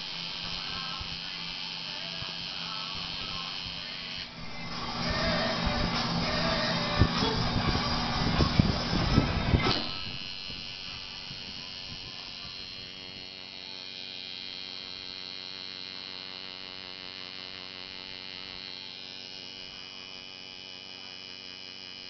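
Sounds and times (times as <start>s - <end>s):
tattoo machine buzzing: 0.0s - 22.0s.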